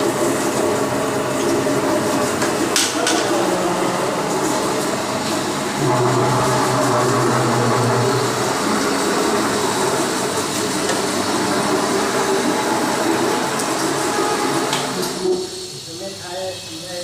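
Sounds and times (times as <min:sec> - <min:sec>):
machine running: 0:00.0 - 0:16.5.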